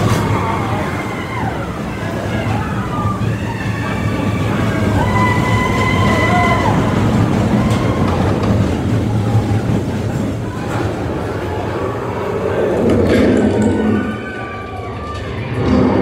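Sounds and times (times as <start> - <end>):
ride vehicle rumbling on track: 0.0 - 16.0.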